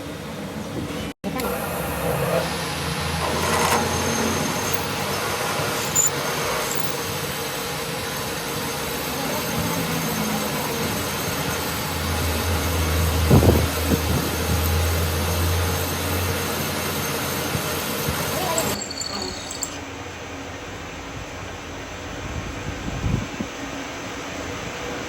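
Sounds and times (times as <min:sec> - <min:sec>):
workshop machinery running: 0:00.0 - 0:21.7.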